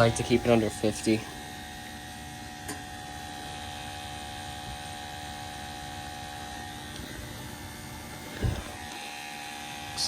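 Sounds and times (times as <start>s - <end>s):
gas boiler humming: 0.0s - 10.0s.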